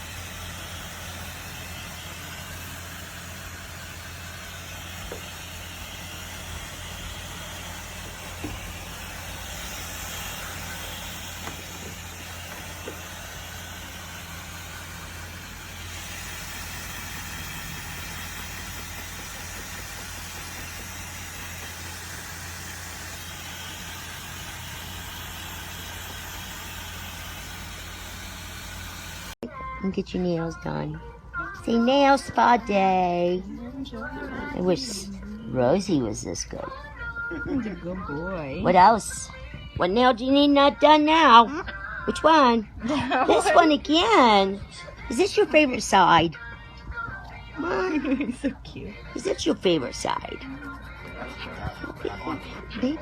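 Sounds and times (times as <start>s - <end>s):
hair dryer running: 0.0s - 29.4s, 37.3s - 53.0s.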